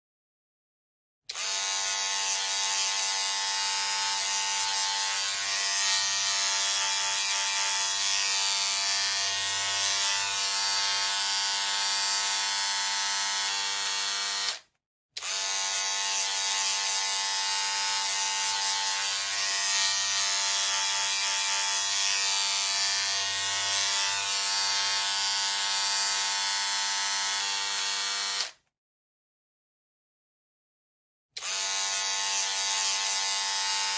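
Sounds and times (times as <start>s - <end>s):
electric hair clipper buzzing: 1.3s - 28.6s, 31.4s - 33.9s.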